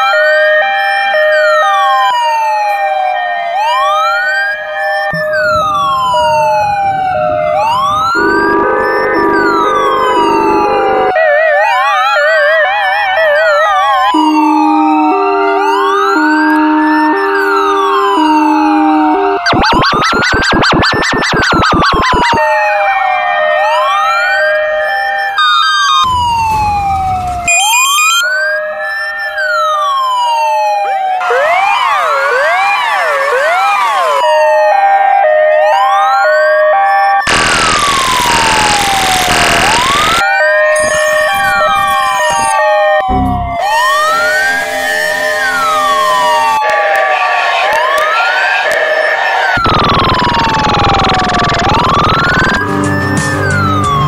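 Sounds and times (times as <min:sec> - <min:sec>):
ambulance siren wailing: 0:00.0 - 0:54.0
two-tone hi-lo siren: 0:00.0 - 0:54.0.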